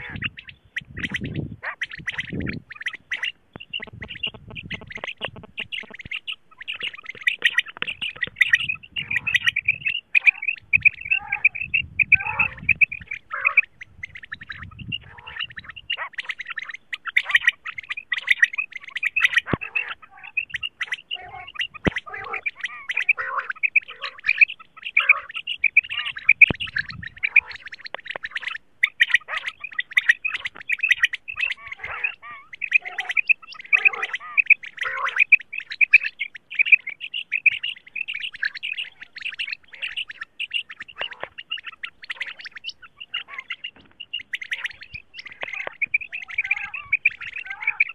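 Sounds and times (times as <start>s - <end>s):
quail chirping: 0.0s - 47.9s.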